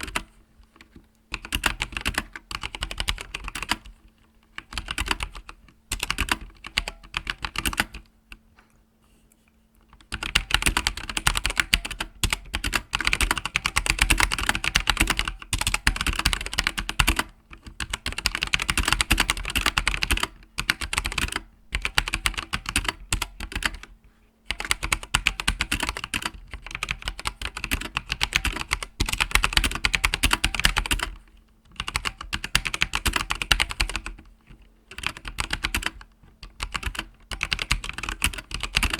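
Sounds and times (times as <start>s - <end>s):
mechanical keyboard typing: 0.0s - 8.1s, 10.0s - 23.9s, 24.5s - 34.3s, 34.9s - 38.9s.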